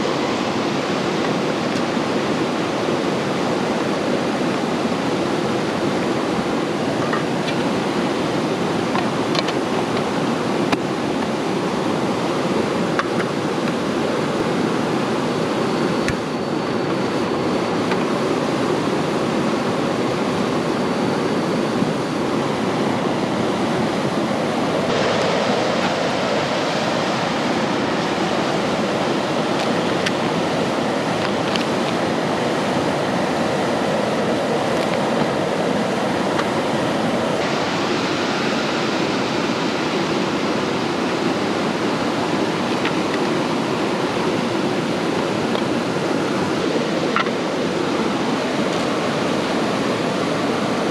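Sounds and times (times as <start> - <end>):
rushing water: 0.0 - 50.9.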